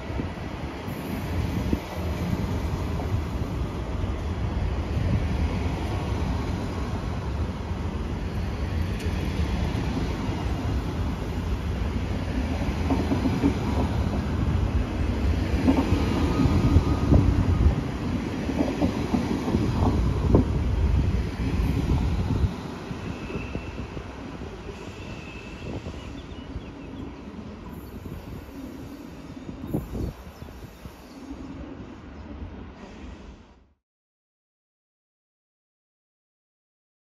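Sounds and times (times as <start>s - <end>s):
train rumbling past: 0.0s - 33.8s.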